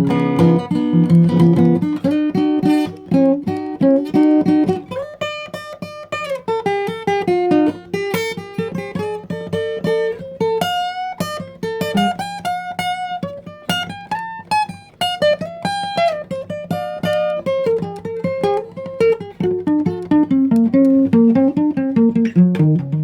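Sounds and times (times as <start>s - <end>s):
guitar plucking melody: 0.0s - 23.0s.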